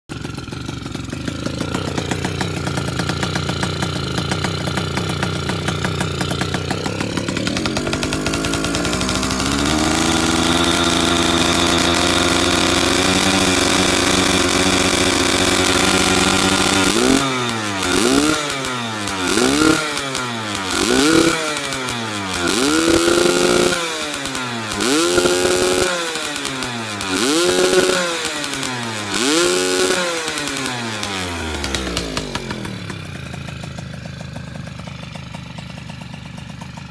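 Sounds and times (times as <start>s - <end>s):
two-stroke motorcycle engine revving: 0.1s - 36.9s.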